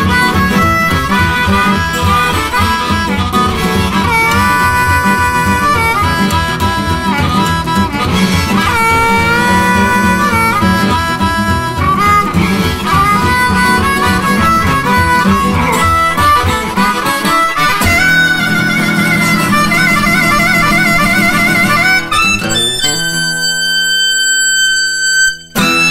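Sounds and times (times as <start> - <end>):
electric blues band: 0.0 - 25.9
harmonica wavering notes: 0.0 - 25.9.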